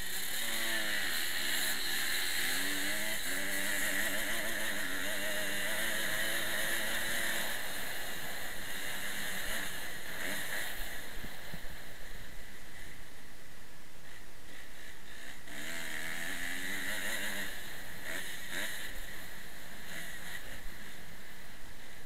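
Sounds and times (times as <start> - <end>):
motocross bike engine running: 0.0 - 22.0.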